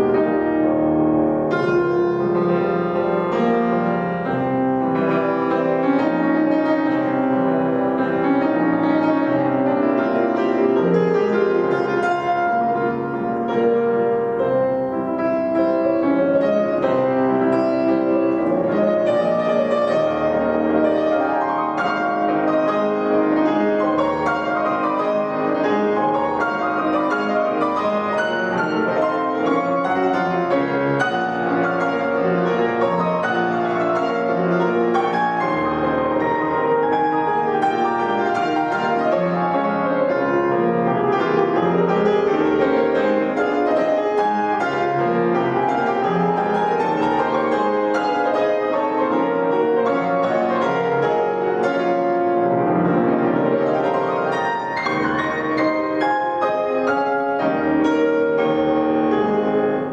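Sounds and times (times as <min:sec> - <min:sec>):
fast classical piano: 0:00.0 - 0:59.9.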